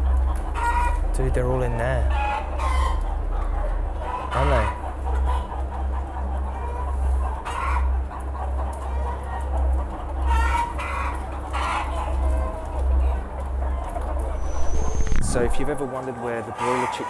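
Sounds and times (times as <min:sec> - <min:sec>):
steady low hum: 0:00.0 - 0:15.9
hens and roosters clucking: 0:00.0 - 0:17.0.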